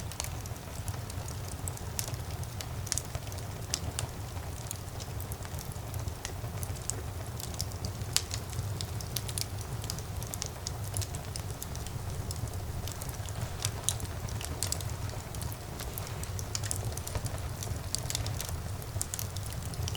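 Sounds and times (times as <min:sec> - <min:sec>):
fire crackles and pops: 0:00.0 - 0:19.9
fire flames rumbling: 0:00.0 - 0:19.9.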